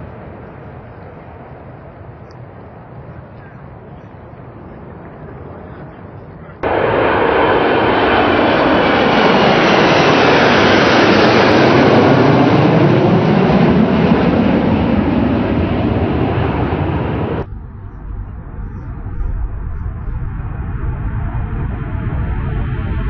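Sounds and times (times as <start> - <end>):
jets roaring past: 0.0 - 23.0.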